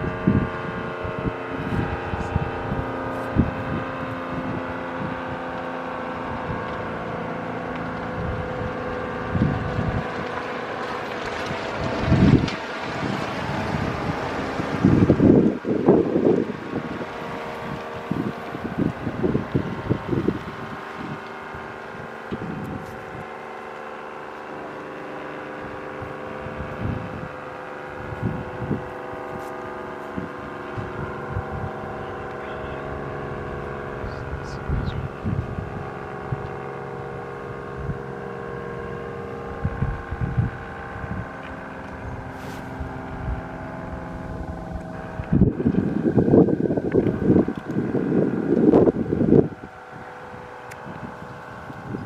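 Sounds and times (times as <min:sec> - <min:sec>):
warning siren steady tone: 0:00.0 - 0:52.0
wind buffeting microphone: 0:00.0 - 0:52.0.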